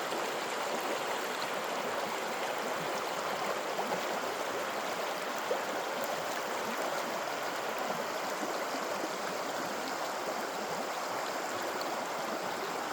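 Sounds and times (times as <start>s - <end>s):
river water rushing over rocks: 0.0s - 12.9s.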